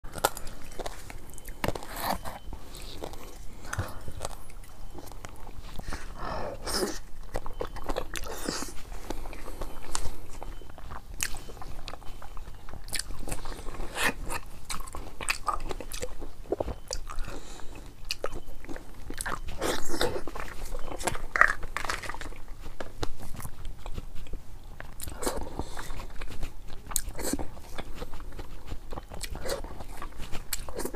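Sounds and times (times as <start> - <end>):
person biting and chewing: 0.1 - 30.9.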